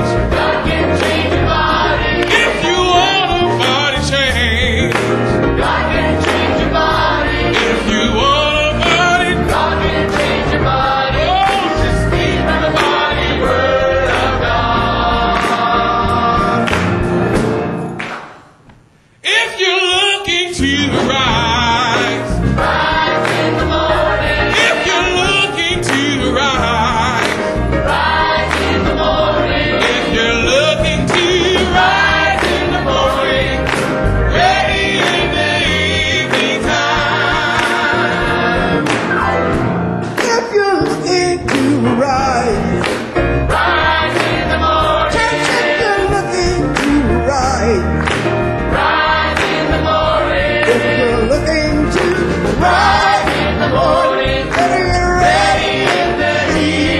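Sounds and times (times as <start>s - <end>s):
choir singing gospel song: 0.0s - 18.2s, 19.2s - 56.9s
instrumental backing with beat: 0.0s - 19.3s, 20.6s - 56.9s.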